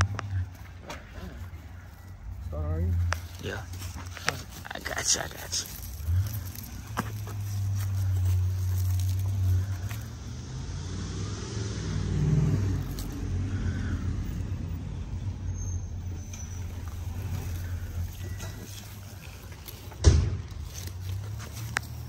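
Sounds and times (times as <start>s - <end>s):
car engine idling: 0.0s - 11.0s, 11.8s - 22.0s.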